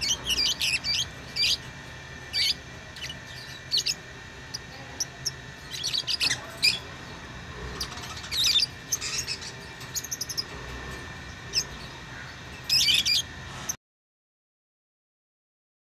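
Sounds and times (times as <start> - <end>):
lovebirds chirping: 0.0 - 13.8
steady low hum: 0.0 - 13.8.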